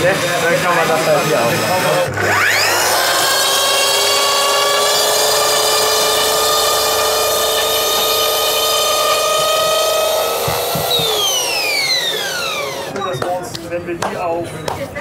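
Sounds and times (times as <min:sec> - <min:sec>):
electric saw cutting: 0:00.0 - 0:13.2
saw winding down whine: 0:00.0 - 0:13.2.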